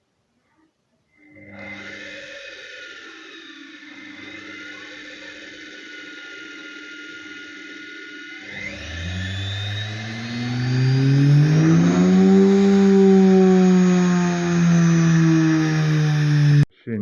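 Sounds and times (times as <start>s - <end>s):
electric motor whining: 1.3s - 16.7s.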